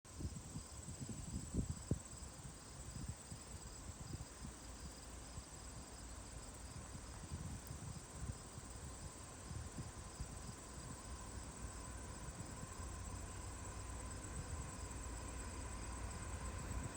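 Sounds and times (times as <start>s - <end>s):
insects chirping: 0.2s - 16.9s.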